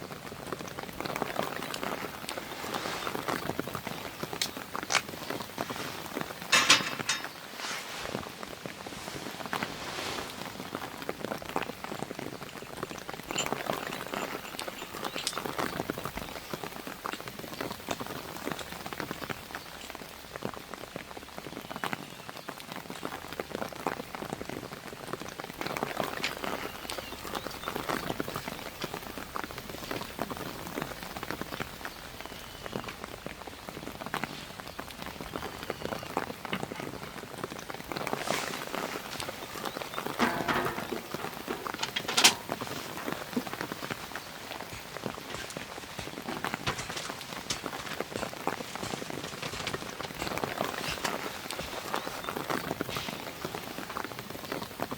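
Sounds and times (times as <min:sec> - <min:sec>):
raindrops ticking on surfaces: 0:00.0 - 0:54.9
steady rain falling: 0:00.0 - 0:54.9.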